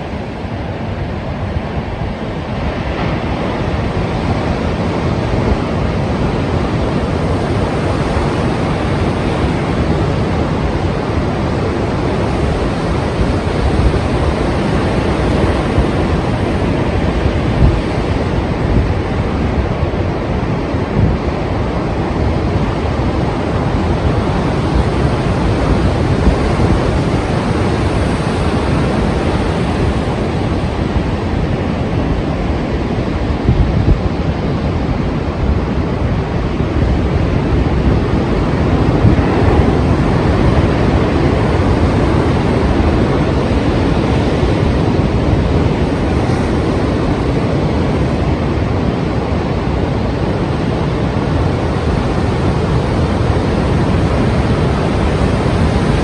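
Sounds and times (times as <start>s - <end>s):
sea surf waves breaking: 0.0s - 56.0s.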